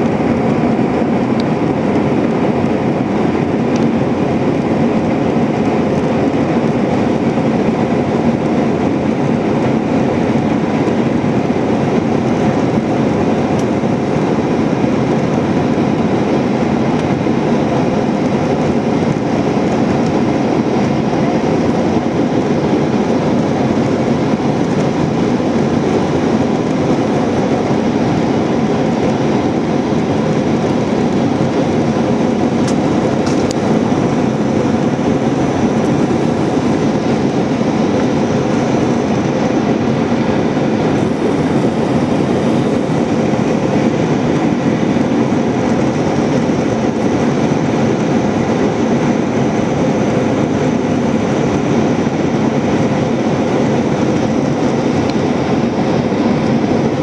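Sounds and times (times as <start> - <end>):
airplane cabin engine roar: 0.0 - 57.0.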